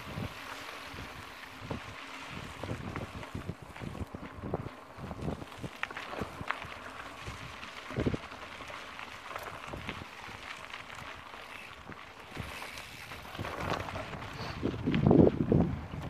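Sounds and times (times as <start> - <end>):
bike rattling and knocking: 0.0 - 16.0
bike tyres crackling over stones: 0.0 - 16.0.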